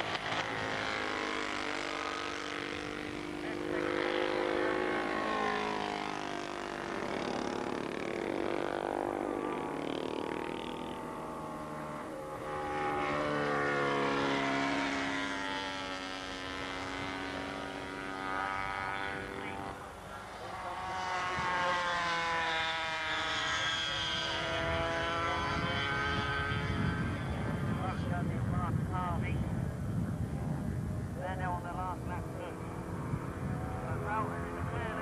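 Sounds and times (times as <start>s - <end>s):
racing motorcycles passing: 0.0s - 35.0s.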